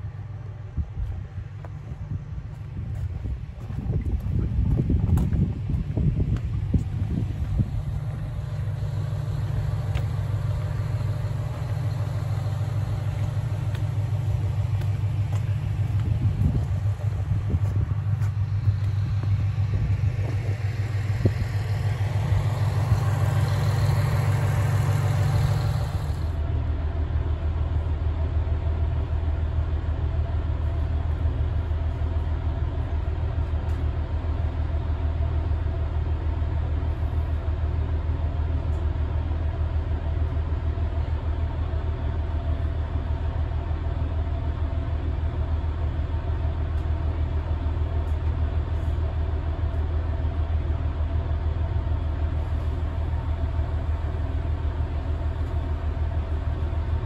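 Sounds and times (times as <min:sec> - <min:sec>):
diesel railcar engine rumble: 0:00.0 - 0:57.0
train rolling noise: 0:00.0 - 0:57.0.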